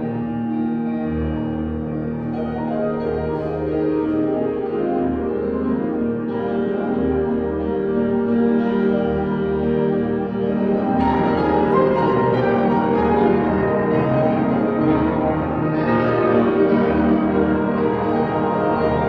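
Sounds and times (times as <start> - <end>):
jazz piano chords: 0.0 - 19.0.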